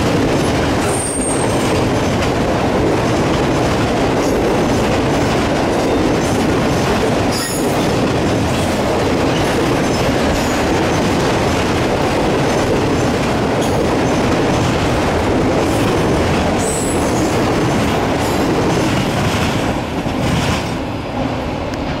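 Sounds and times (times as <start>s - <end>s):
train wheels rumbling and rattling: 0.0s - 22.0s.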